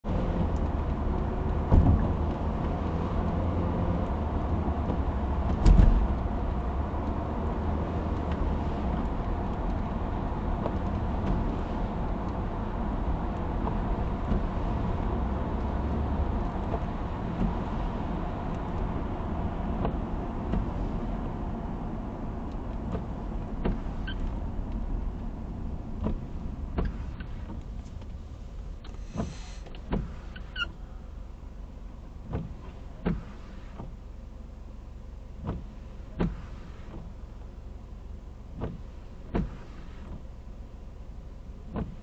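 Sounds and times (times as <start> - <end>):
car tyre and engine rumble: 0.0 - 42.0.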